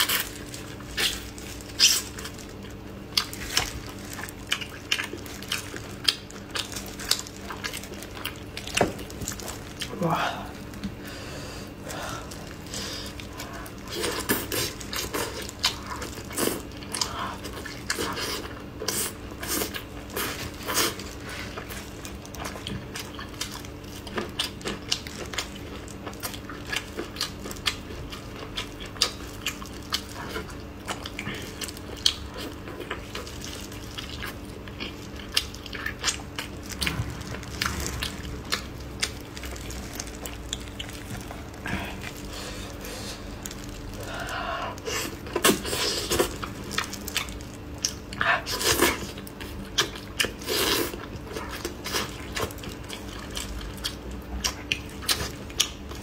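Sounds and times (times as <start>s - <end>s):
wet chewing and lip smacks: 0.0s - 9.9s, 12.3s - 42.8s, 44.7s - 56.0s
faint steady hum: 0.0s - 56.0s.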